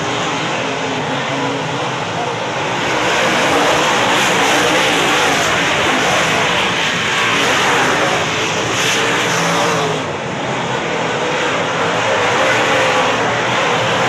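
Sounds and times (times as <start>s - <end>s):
race car engines roaring: 0.0s - 14.0s.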